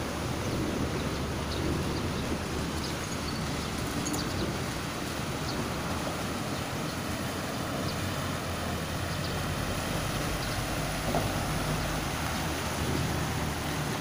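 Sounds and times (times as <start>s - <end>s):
tyres sloshing water: 0.0s - 14.0s.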